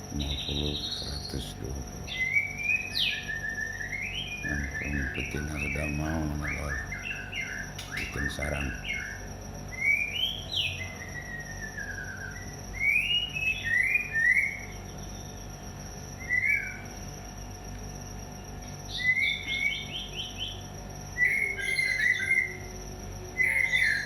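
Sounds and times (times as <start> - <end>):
thin steady high tone: 0.0 - 24.0
bird whistling calls: 0.2 - 15.4, 16.2 - 17.0, 18.9 - 24.0.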